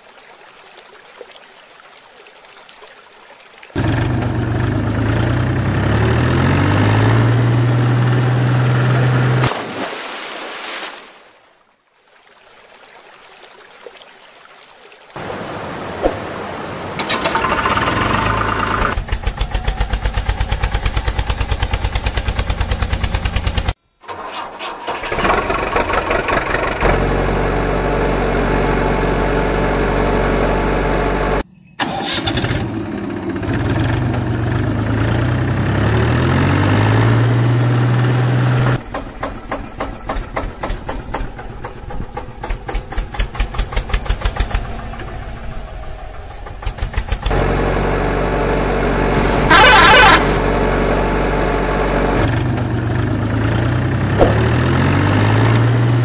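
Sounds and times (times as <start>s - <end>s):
tractor engine running: 3.8s - 9.5s, 16.8s - 56.0s.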